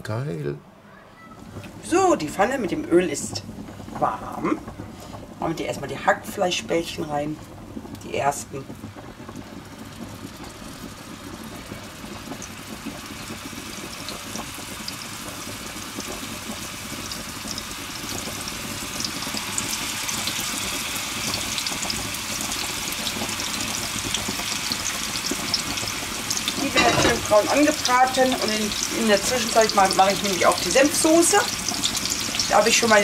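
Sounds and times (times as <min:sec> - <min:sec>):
meatballs sizzling in hot oil: 0:01.4 - 0:33.0.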